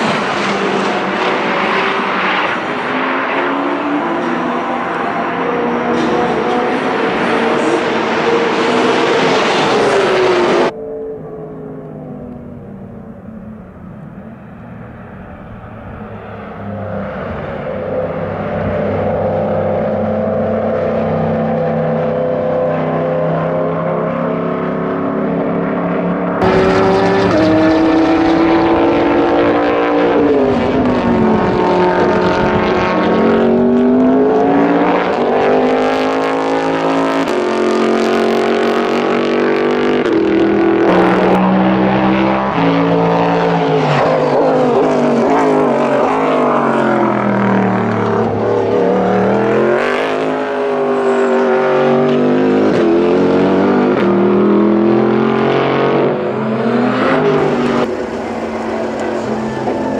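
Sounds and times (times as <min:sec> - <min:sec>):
race car engine running hard: 0:11.8 - 0:59.9.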